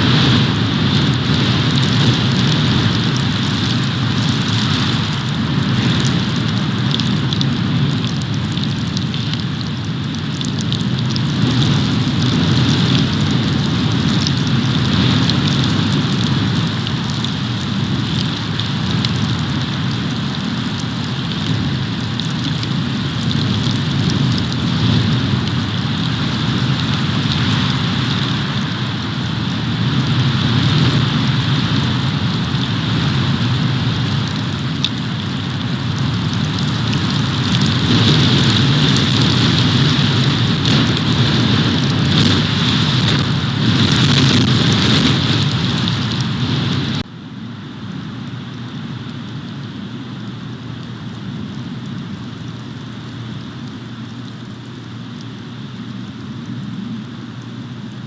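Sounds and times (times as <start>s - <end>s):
storm wind on microphone: 0.0s - 58.0s.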